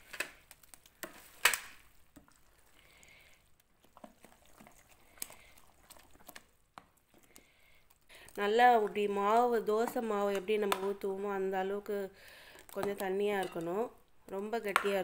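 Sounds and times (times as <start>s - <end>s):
spoon stirring thick batter: 0.0s - 15.0s.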